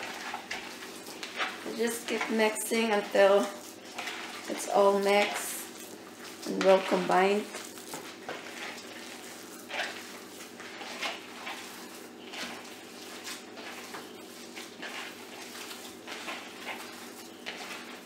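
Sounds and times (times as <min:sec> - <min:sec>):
hands squishing raw meat: 0:02.8 - 0:18.0.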